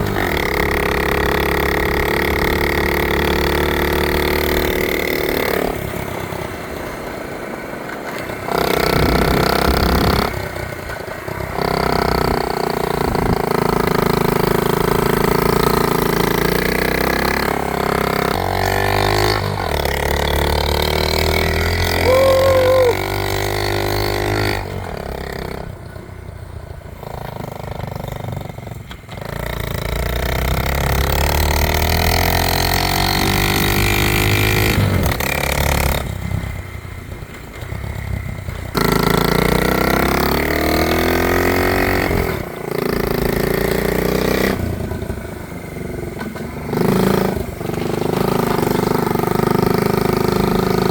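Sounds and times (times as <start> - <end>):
minibike engine revving: 0.0 - 50.9.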